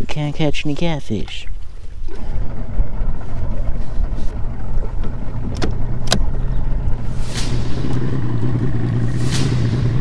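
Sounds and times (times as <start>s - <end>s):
water noise: 0.0s - 10.0s
outboard motor running: 1.5s - 10.0s.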